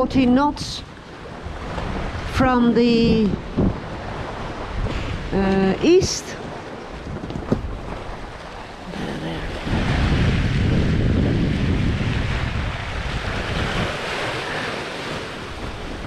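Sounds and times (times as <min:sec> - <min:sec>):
sea rushing along hull: 0:00.0 - 0:16.0
wind on microphone: 0:00.0 - 0:16.0.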